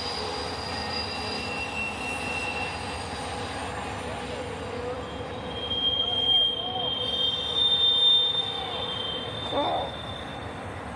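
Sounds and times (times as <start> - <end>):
freight train rumbling on rails: 0.0 - 10.9
high wheel squeals: 0.0 - 10.9.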